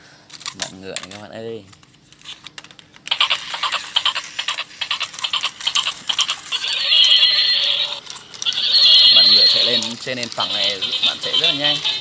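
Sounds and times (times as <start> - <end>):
toy gear mechanism clattering: 0.3 - 12.0.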